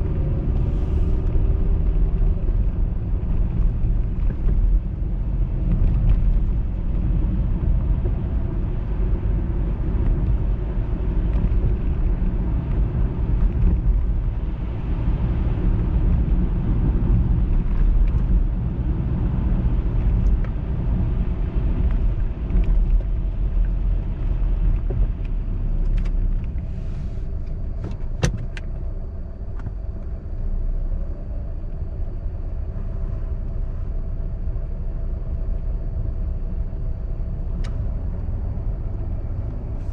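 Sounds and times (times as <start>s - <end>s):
tyres and engine rumbling: 0.0s - 39.9s.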